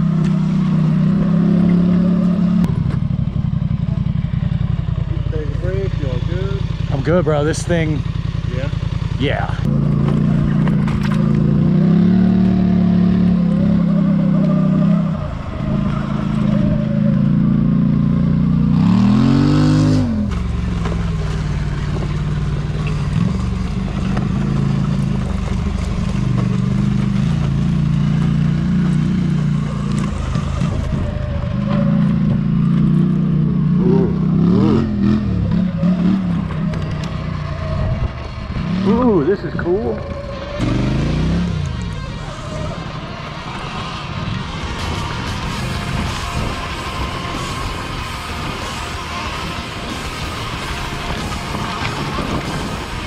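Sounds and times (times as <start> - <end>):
atv engine running under load: 0.0 - 53.0.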